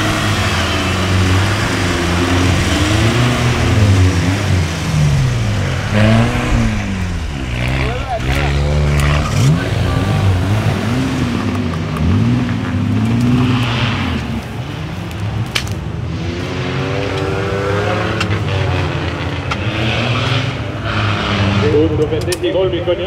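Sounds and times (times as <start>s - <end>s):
off-road engine revving: 0.0s - 22.6s.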